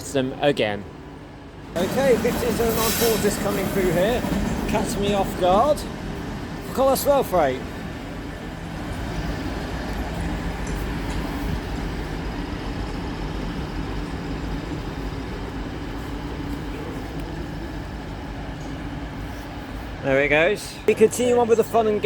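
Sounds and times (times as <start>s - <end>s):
freight train rumbling past: 1.0s - 22.0s.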